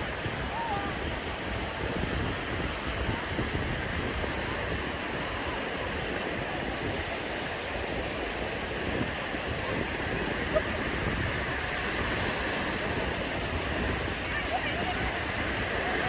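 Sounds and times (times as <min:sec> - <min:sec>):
sea waves breaking on beach: 0:00.0 - 0:16.0.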